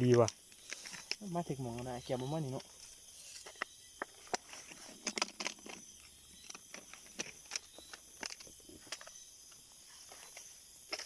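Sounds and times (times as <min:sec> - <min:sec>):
dry grass and leaves crackling: 0:00.0 - 0:11.0
insect chorus: 0:00.0 - 0:11.0.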